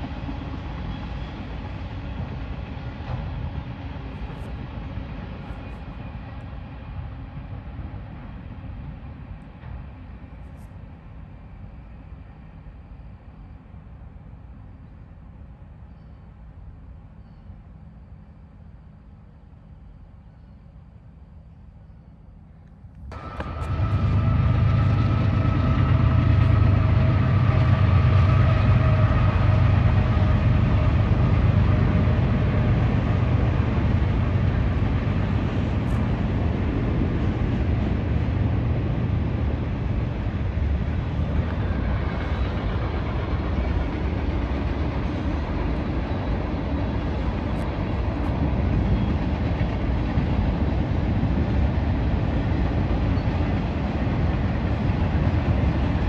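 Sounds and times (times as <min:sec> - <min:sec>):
freight train rumbling past: 0:00.0 - 0:15.8, 0:23.0 - 0:56.0.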